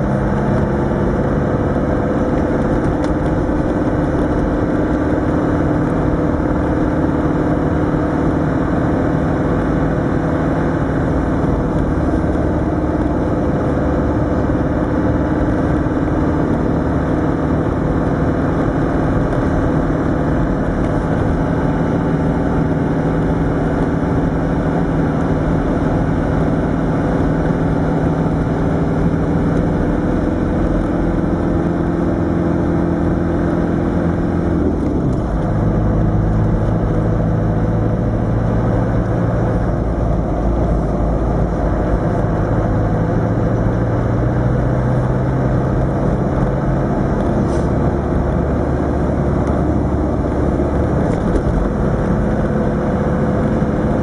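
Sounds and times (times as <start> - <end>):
diesel engine droning: 0.0 - 54.0
road noise rushing: 0.0 - 54.0.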